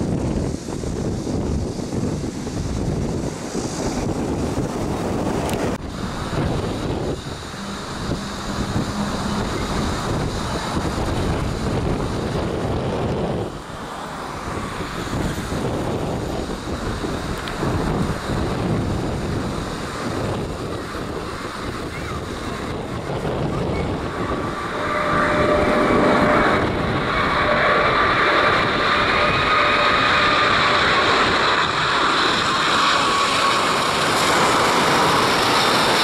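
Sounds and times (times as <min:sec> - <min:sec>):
jet engine rumble: 0:00.0 - 0:36.0
jet fan whine: 0:00.0 - 0:36.0
wind on microphone: 0:00.0 - 0:36.0.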